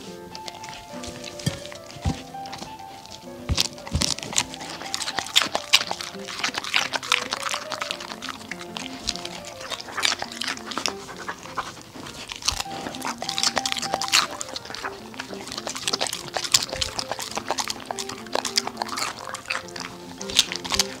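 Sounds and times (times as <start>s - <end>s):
dog panting: 0.0s - 21.0s
dog smacking lips: 0.0s - 21.0s
light background music: 0.0s - 21.0s.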